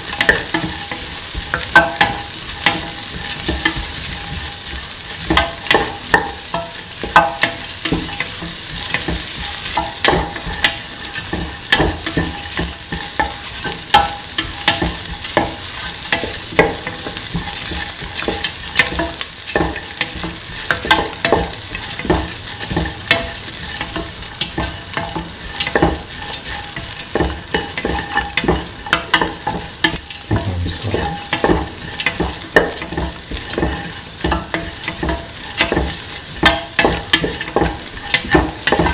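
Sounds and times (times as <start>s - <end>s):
onions sizzling in oil: 0.0s - 38.9s.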